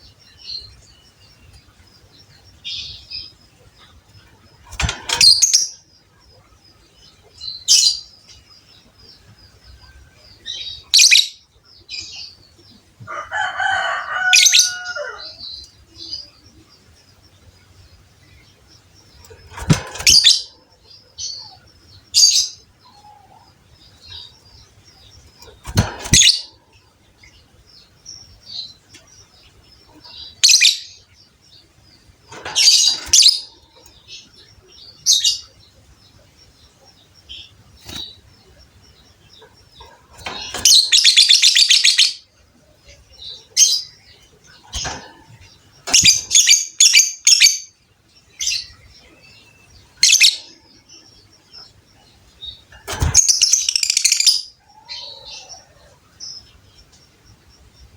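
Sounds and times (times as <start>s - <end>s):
bird chirping: 0.0s - 57.9s.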